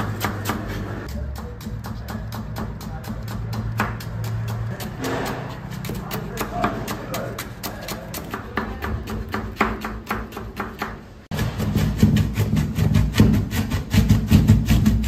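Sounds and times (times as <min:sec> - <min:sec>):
knife chopping on cutting board: 0:00.0 - 0:15.0.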